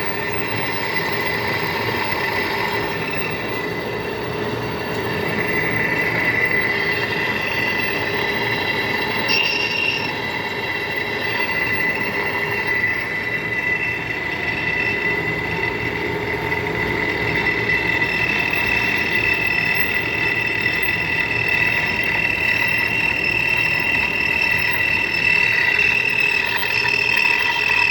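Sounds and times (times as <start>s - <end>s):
lathe running: 0.0s - 27.9s.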